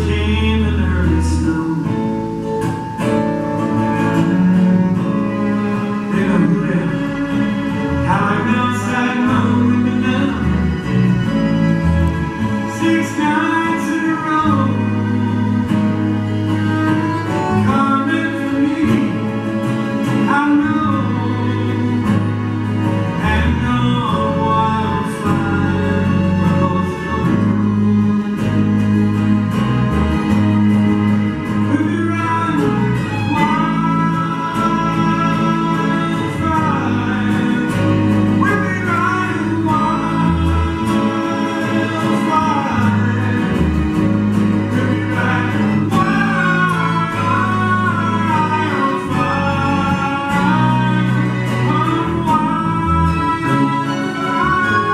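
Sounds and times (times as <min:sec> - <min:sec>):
man singing: 0:00.0 - 0:11.6, 0:12.3 - 0:28.1, 0:31.6 - 0:54.9
acoustic guitar: 0:00.0 - 0:54.9
violins and cello: 0:00.0 - 0:54.9.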